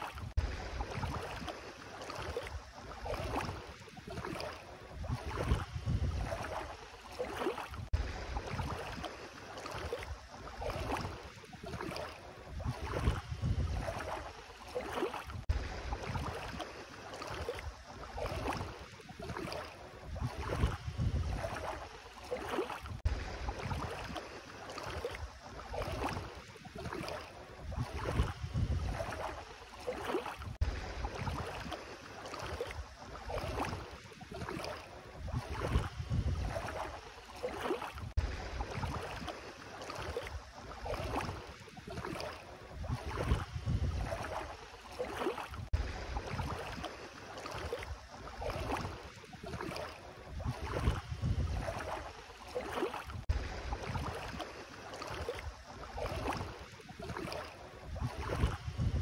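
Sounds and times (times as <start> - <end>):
bare feet wading through water: 0.0 - 59.0.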